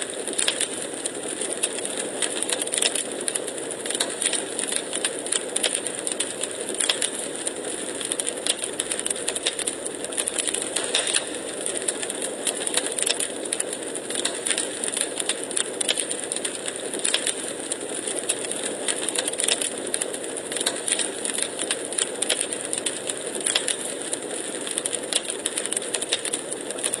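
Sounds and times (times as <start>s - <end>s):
logs crackling in fireplace: 0.0s - 27.0s.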